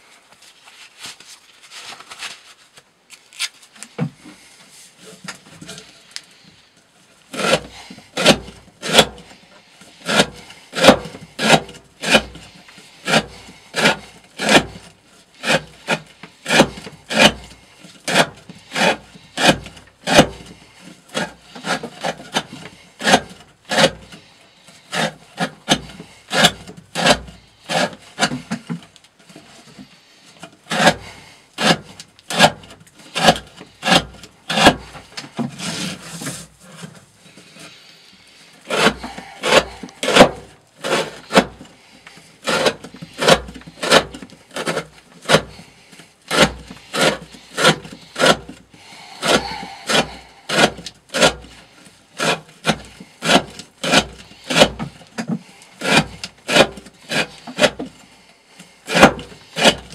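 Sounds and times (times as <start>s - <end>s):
knife blade shaving wood: 7.3s - 59.9s.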